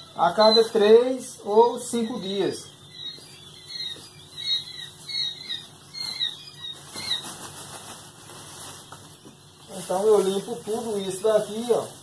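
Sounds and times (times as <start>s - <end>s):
quail chicks peeping: 0.0s - 12.0s
wood shavings rustling: 0.1s - 12.0s.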